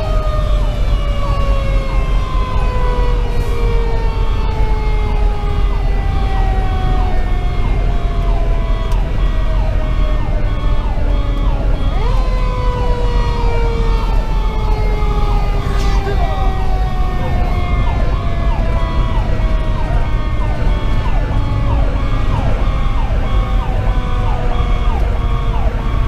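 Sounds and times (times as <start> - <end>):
diesel engine rumble: 0.0 - 26.0
road noise: 0.0 - 26.0.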